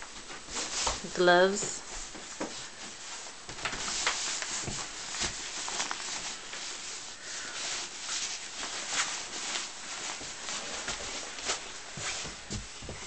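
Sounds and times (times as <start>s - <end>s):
winter clothing rustling: 0.0s - 13.0s.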